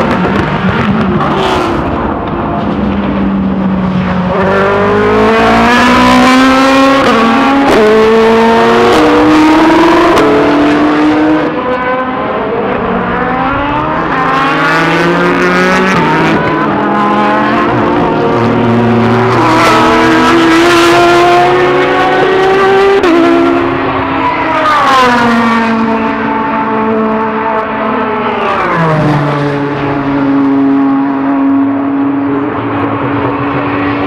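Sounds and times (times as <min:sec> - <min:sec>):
race car engine accelerating: 0:00.0 - 0:34.0.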